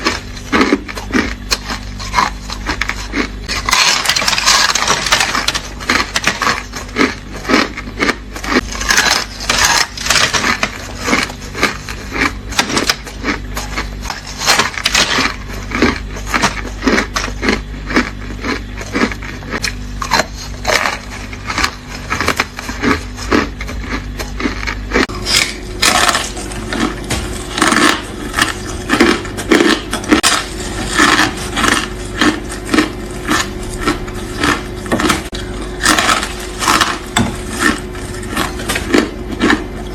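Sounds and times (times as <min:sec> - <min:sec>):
ice crunching in mouth: 0:00.0 - 0:39.9.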